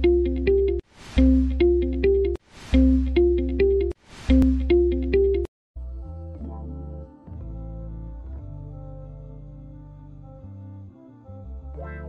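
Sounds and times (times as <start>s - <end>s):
instrumental music with deep bass: 0.0s - 12.0s.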